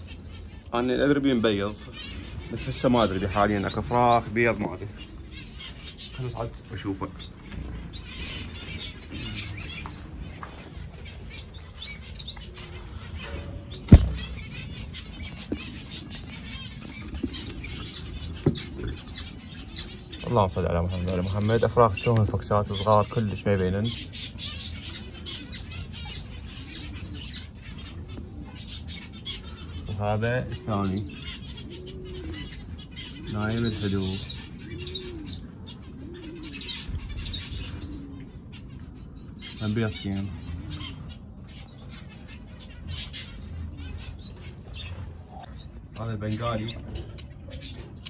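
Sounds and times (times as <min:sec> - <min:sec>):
dove-like cooing: 0:00.0 - 0:48.0
small birds chirping: 0:00.0 - 0:48.0.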